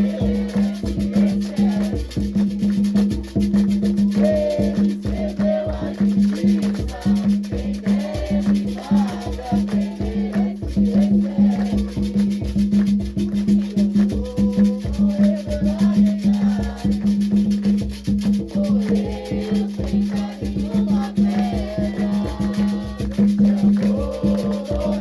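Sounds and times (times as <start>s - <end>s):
voices singing a chant: 0.0s - 12.7s, 13.4s - 17.5s, 18.3s - 25.0s
shaker: 0.0s - 25.0s.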